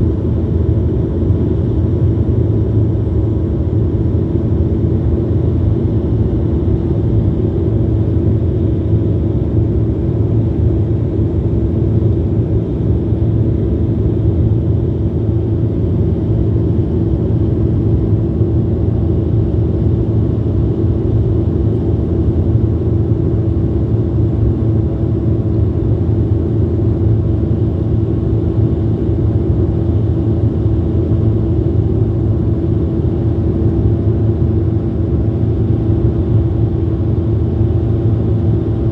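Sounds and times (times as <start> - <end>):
airliner cabin engine rumble: 0.0 - 38.9
constant cabin hum: 0.0 - 38.9.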